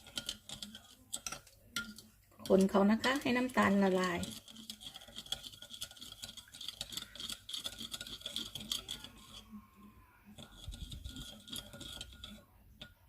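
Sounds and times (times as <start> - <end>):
utensil stirring in container: 0.0 - 13.0.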